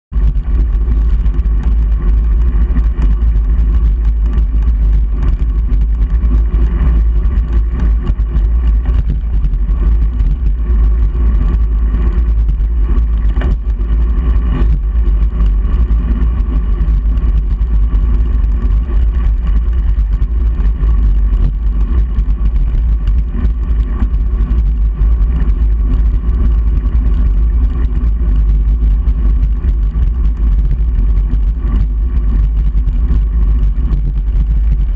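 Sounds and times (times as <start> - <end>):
bicycle tyre and road noise: 0.0 - 34.9
low wind rumble: 0.0 - 34.9.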